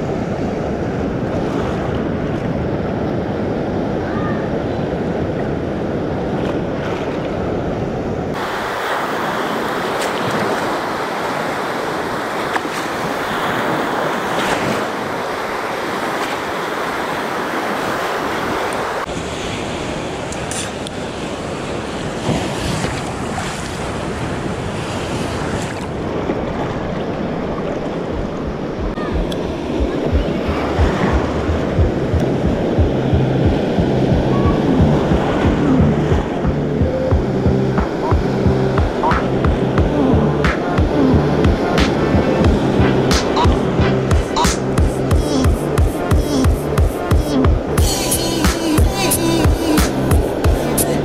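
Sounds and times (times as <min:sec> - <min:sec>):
wind buffeting microphone: 0:00.0 - 0:47.9
ocean surf breaking: 0:00.0 - 0:51.0.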